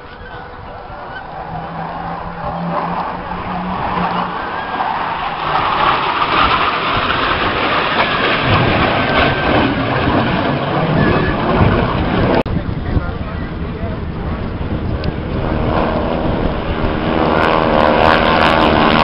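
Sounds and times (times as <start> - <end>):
jet aircraft flying low: 0.0 - 19.0.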